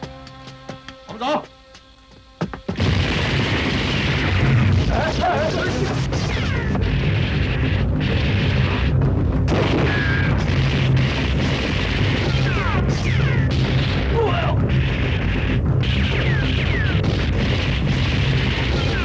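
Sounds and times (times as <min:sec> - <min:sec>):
film music score: 0:00.0 - 0:19.0
explosions: 0:02.7 - 0:19.0
gunshots: 0:02.7 - 0:19.0.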